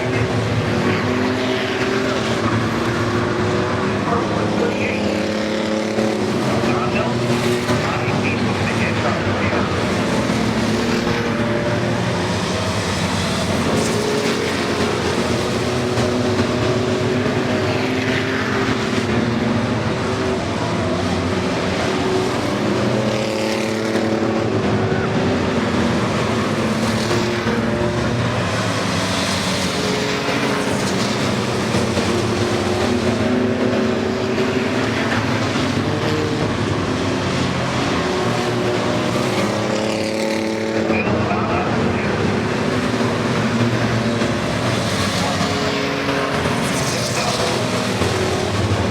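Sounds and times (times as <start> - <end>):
race truck engines passing by: 0.0 - 48.9.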